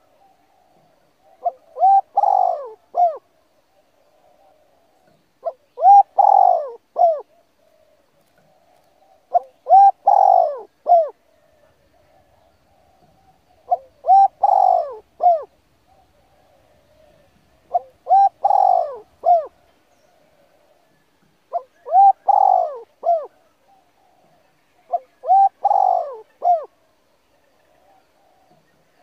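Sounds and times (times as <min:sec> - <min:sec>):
bird calling: 0:00.0 - 0:29.0.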